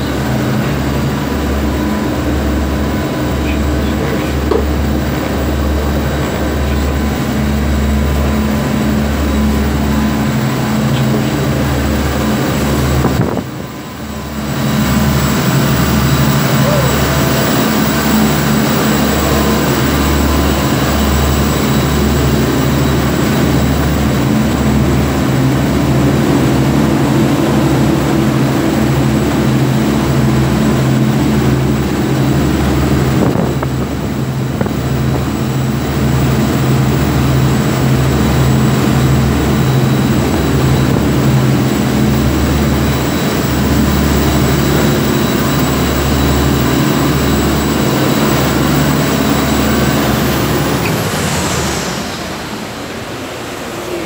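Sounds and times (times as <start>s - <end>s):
boat engine drone: 0.0s - 54.0s
churning wake: 0.0s - 54.0s.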